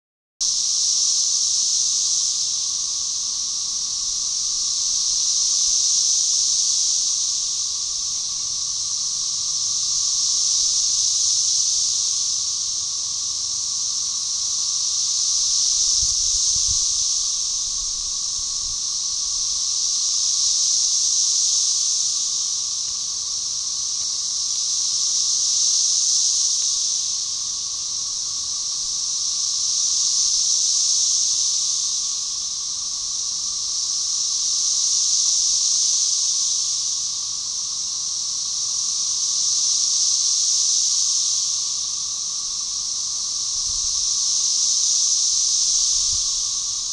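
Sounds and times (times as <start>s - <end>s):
cicada chorus: 0.4s - 46.9s
low cicada drone: 0.4s - 46.9s.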